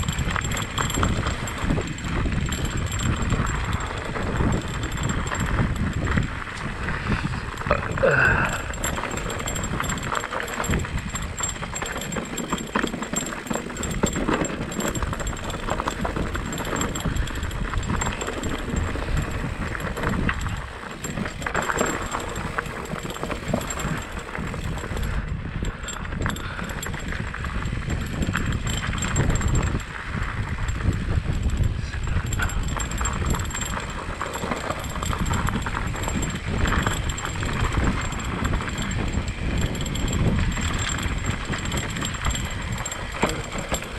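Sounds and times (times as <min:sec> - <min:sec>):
constant rushing rumble: 0:00.0 - 0:43.9
mountain bike rattling over rocks: 0:00.0 - 0:43.9.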